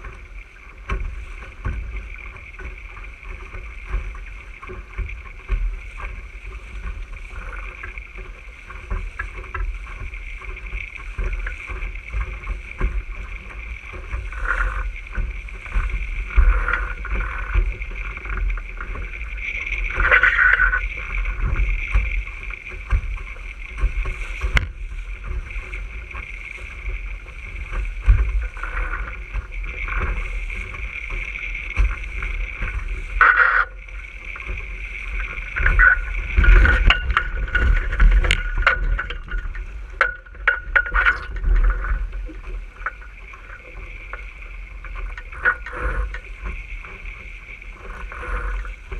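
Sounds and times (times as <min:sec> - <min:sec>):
water rushing along a hull: 0:00.0 - 0:48.9
wind on microphone: 0:00.0 - 0:48.9.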